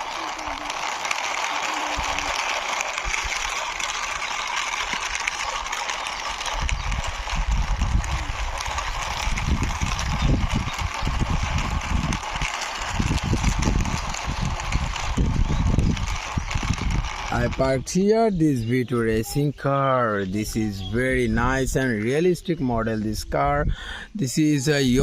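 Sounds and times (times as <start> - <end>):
toy car wheels rolling: 0.0 - 25.0.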